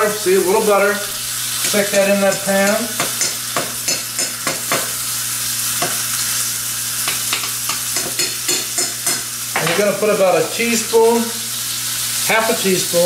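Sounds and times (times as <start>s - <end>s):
skillets sizzling: 0.0s - 13.0s.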